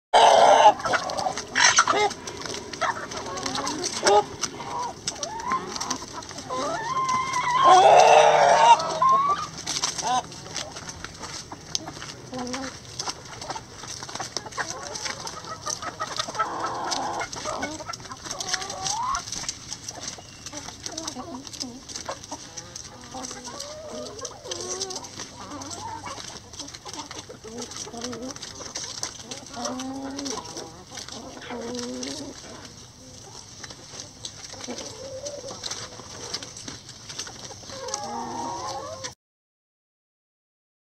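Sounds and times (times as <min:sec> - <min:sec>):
hens clucking: 0:00.1 - 0:39.2
beaks pecking: 0:00.7 - 0:39.1.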